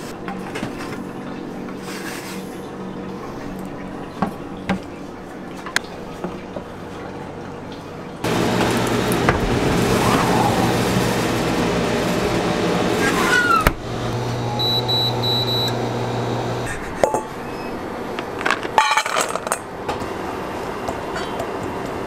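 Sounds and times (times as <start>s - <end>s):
refrigerated cabinet humming: 0.0s - 22.0s.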